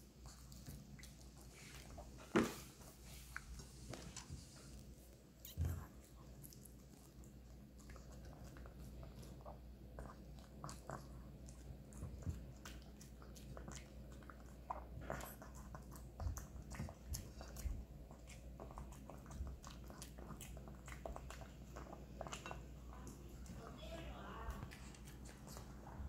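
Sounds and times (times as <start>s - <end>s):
dog chewing and mouth clicks: 0.0s - 2.2s, 2.8s - 26.0s.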